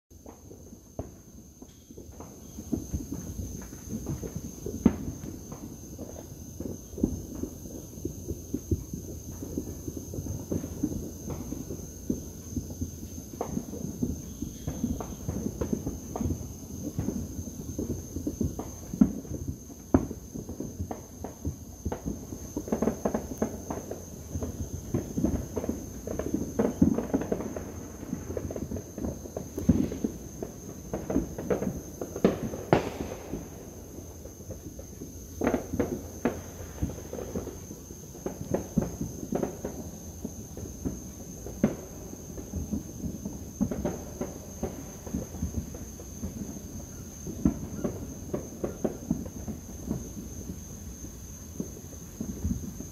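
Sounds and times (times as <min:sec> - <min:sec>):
fireworks and firecrackers banging: 0:00.1 - 0:52.9.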